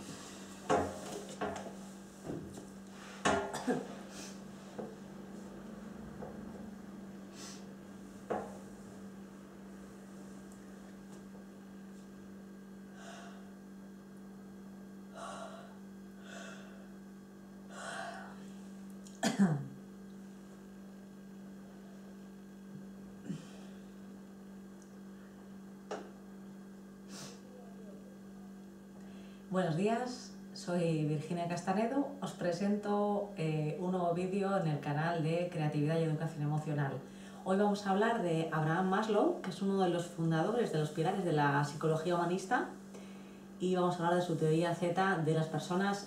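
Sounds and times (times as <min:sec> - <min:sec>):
steady electrical hum: 0:00.0 - 0:46.0.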